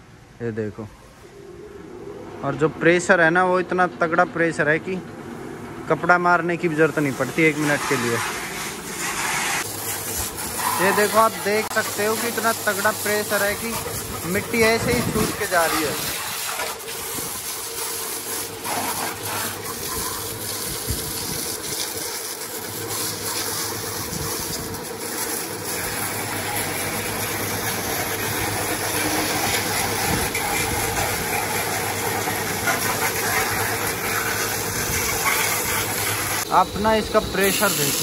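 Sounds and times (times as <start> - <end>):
steady hum: 0.0 - 38.0
pressure washer spraying water: 6.6 - 38.0.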